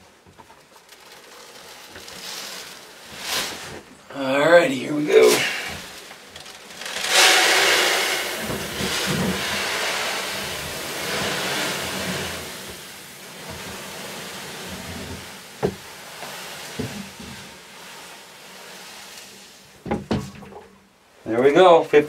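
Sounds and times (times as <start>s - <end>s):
feed pouring into hopper: 0.8s - 4.1s, 4.7s - 20.4s.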